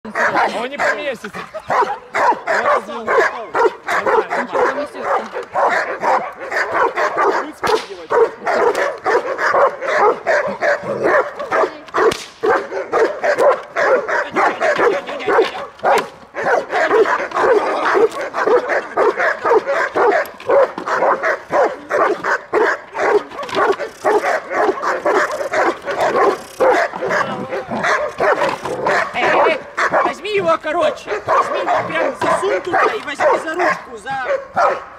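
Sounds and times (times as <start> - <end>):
dog barking rapidly: 0.1 - 34.9.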